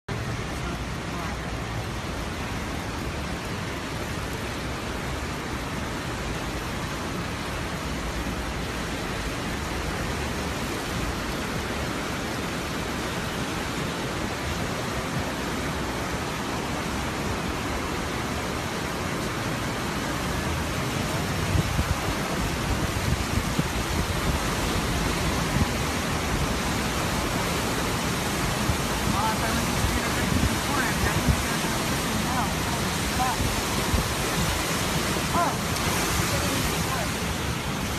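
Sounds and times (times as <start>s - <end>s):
roar of churning water: 0.1s - 37.9s.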